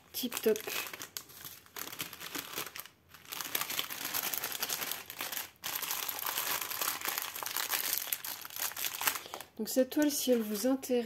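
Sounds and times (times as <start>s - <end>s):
plastic bags crinkling: 0.0s - 10.9s.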